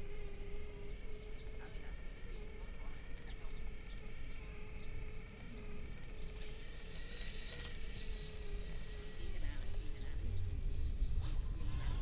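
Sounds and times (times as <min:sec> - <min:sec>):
birds chirping: 0:00.0 - 0:12.0
rc car motor whining: 0:00.0 - 0:12.0.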